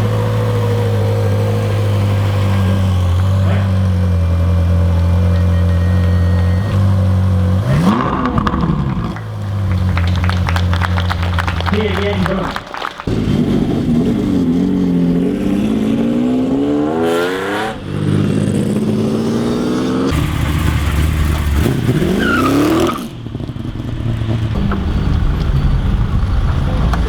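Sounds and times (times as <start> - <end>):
sports car engine revving: 0.0 - 27.0.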